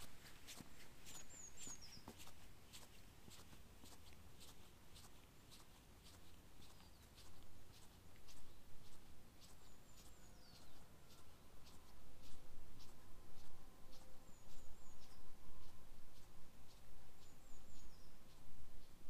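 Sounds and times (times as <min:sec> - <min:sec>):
small birds ticking: 0:00.0 - 0:19.0.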